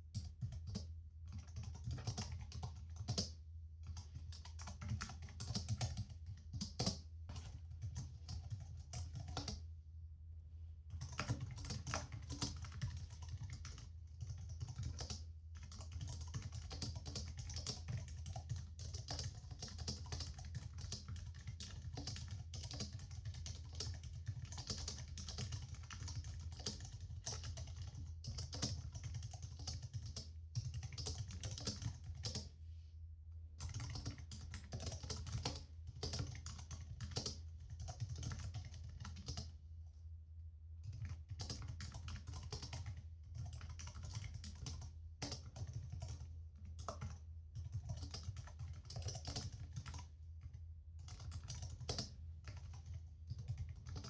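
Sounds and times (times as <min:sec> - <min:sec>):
laptop keyboard typing: 0:00.1 - 0:09.6, 0:10.9 - 0:32.5, 0:33.6 - 0:39.6, 0:40.8 - 0:54.0.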